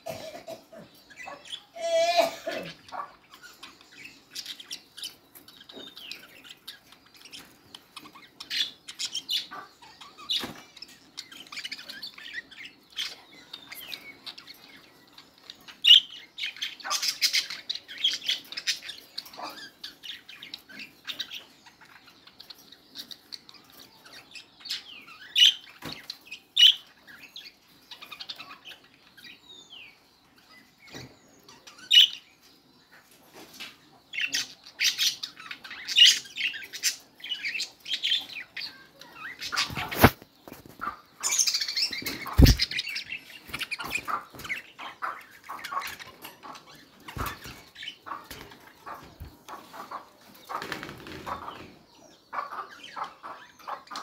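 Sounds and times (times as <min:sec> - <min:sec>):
budgerigars chirping: 0:00.8 - 0:01.8, 0:02.7 - 0:32.5, 0:33.4 - 0:54.0.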